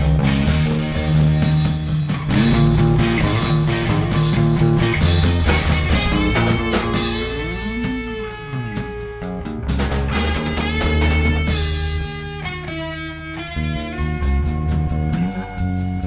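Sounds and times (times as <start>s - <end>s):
bass guitar: 0.0s - 16.0s
drums: 0.0s - 16.0s
electric guitars: 0.0s - 16.0s.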